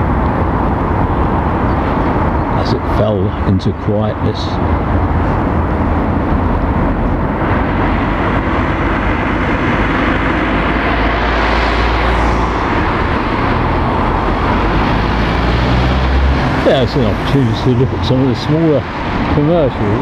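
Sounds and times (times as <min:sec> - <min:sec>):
cars driving past: 0:00.0 - 0:20.0.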